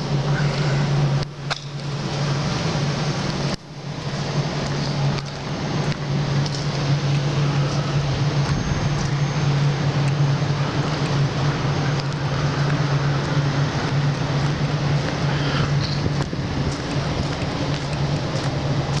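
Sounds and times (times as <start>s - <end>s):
car engine and road hum: 0.0s - 19.0s
wind and tyre noise: 0.0s - 19.0s.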